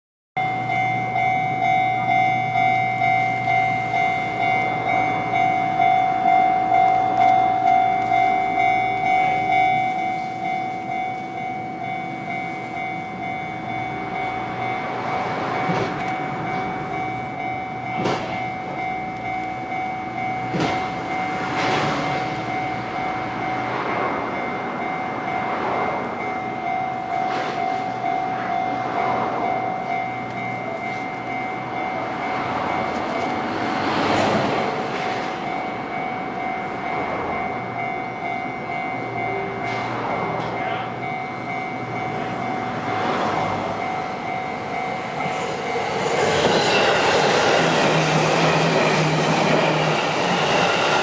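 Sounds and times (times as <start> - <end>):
level crossing alarm ringing: 0.4 - 51.0
train wheels clacking: 0.7 - 51.0.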